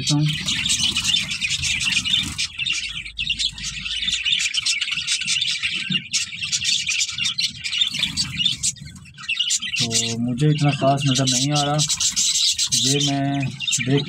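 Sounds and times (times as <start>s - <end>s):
flock of sparrows chirping: 0.0s - 14.0s.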